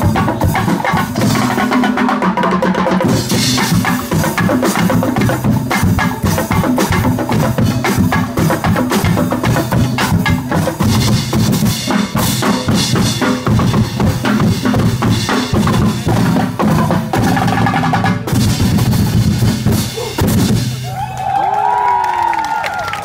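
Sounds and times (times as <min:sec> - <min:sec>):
percussion band drumming: 0:00.0 - 0:21.1.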